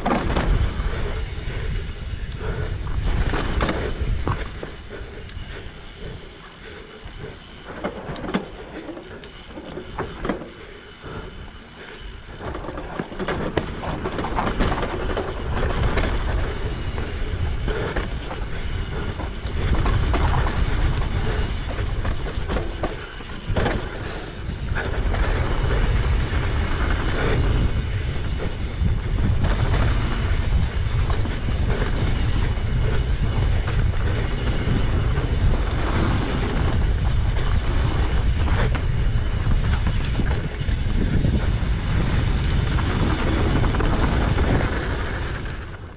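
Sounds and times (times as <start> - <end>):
wind on microphone: 0.0 - 8.8, 12.3 - 45.9
bike rattling and knocking: 0.0 - 45.9
tyres rumbling on dirt: 0.0 - 45.9.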